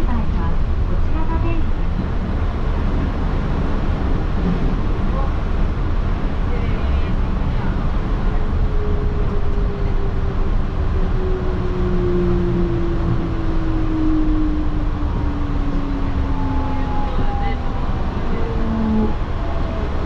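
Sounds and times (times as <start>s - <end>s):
train interior rumble: 0.0s - 20.0s.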